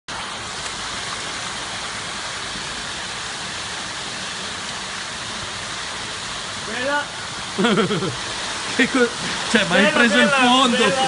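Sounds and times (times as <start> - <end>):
water rushing along a channel: 0.1 - 11.0.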